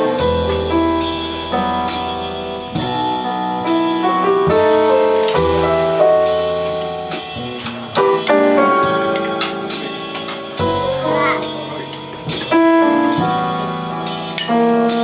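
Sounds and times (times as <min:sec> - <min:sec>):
piano chords and melody: 0:00.0 - 0:15.0
upright bass notes: 0:00.0 - 0:15.0.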